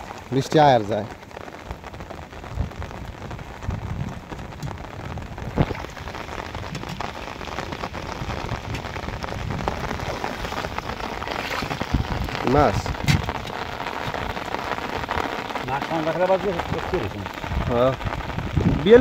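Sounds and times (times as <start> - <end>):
rain on shallow water: 0.0 - 19.0.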